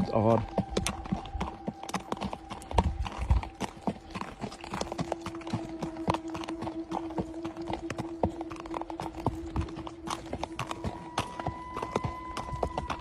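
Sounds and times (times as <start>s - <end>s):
horse hooves clip-clopping: 0.0s - 13.0s
steady humming tone: 0.0s - 13.0s.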